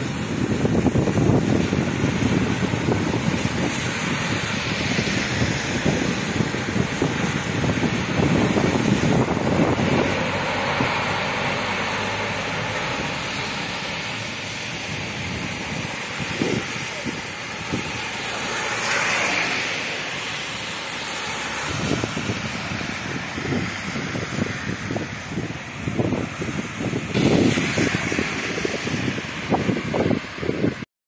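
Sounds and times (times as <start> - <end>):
wind buffeting microphone: 0.0 - 18.8, 21.1 - 30.8
truck diesel engine rumble: 0.0 - 30.8
tyres hissing through water: 0.0 - 30.8.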